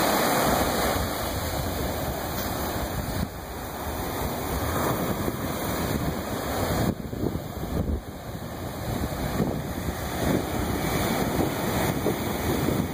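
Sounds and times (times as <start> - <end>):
ocean surf breaking: 0.0 - 12.9
wind buffeting microphone: 0.4 - 12.9.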